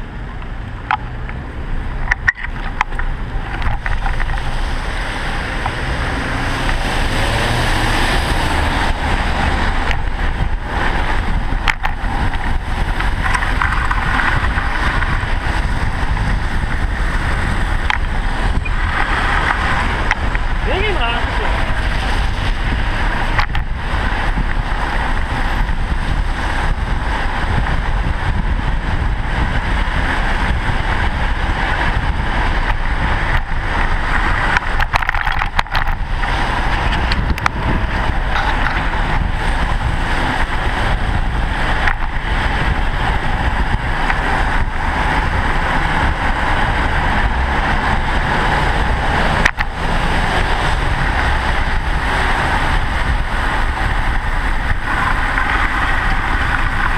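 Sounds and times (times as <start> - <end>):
car traffic: 0.0 - 56.9
wind on the microphone: 0.0 - 56.9.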